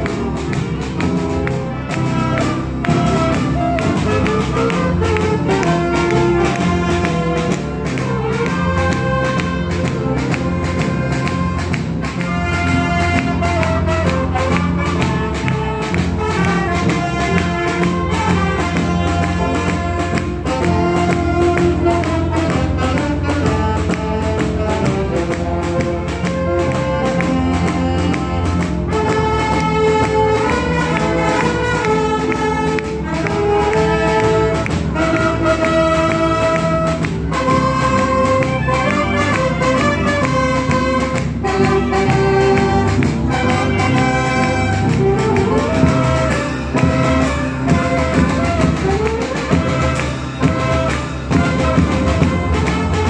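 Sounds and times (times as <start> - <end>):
wind band playing: 0.0 - 53.0.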